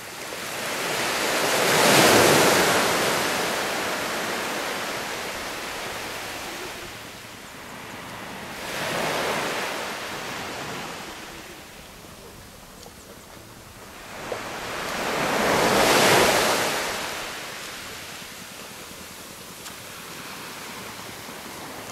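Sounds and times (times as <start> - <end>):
small waves washing on beach: 0.0 - 21.9.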